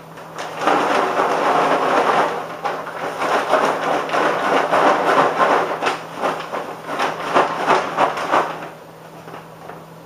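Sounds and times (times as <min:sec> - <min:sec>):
cereal rattling in shaken bag: 0:00.2 - 0:08.8
paper bag rustling: 0:00.2 - 0:09.8.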